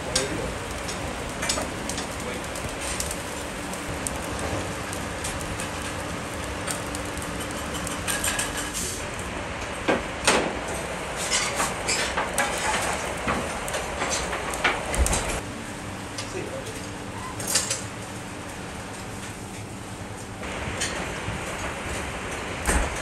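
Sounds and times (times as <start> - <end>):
fish sizzling on charcoal grill: 0.0 - 23.0.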